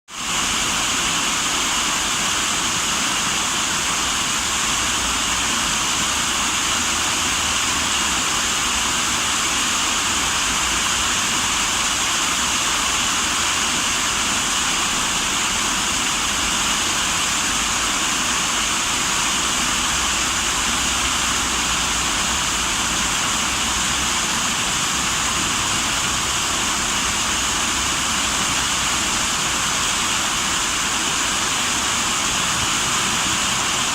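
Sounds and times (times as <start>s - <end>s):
running water rushing: 0.1s - 33.9s.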